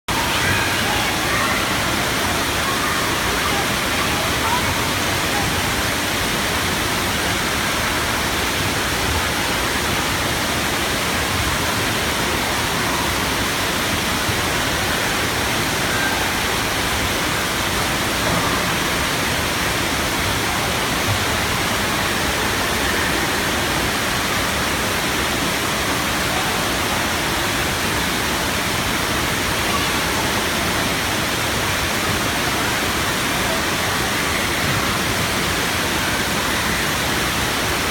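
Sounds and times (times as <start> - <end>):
falling and splashing water: 0.1 - 37.9.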